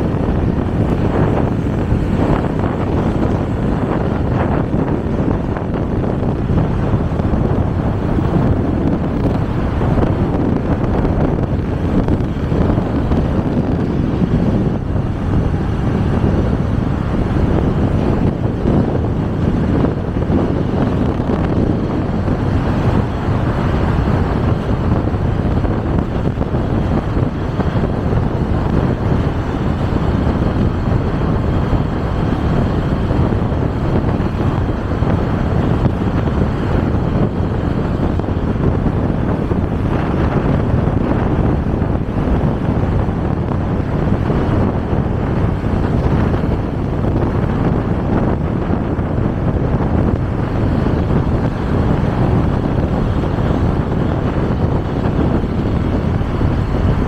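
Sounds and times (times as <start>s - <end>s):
ride noise: 0.0s - 57.0s
wind buffeting microphone: 0.0s - 57.0s.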